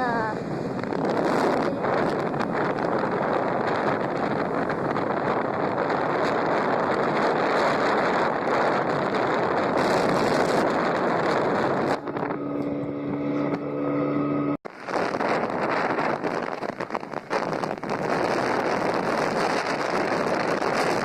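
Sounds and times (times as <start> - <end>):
motorbike engine hum: 0.0 - 21.0
wind roaring over microphone: 0.0 - 21.0.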